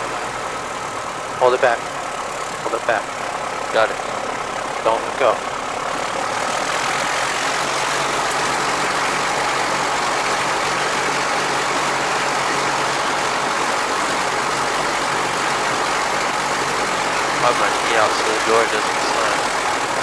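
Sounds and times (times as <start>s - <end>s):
light aircraft engine and propeller: 0.0s - 20.0s.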